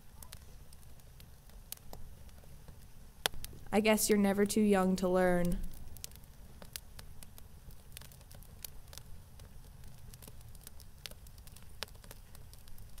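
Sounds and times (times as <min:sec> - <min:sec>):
faint crackling clicks: 0:00.0 - 0:03.8, 0:05.4 - 0:13.0.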